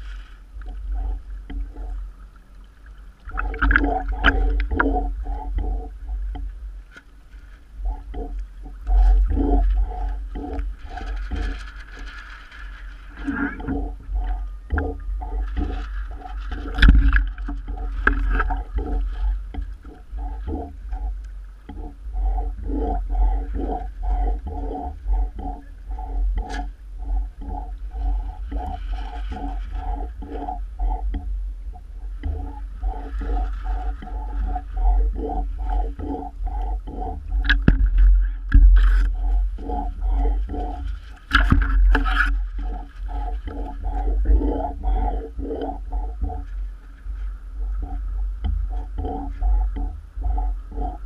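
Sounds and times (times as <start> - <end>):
water slapping and gurgling: 0.0 - 51.0
wind and waves rumble: 0.0 - 51.0.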